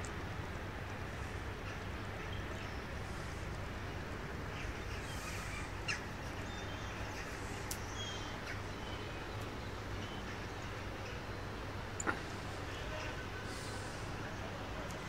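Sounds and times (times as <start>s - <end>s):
low background hum: 0.0s - 15.0s
seagulls calling: 1.6s - 14.8s.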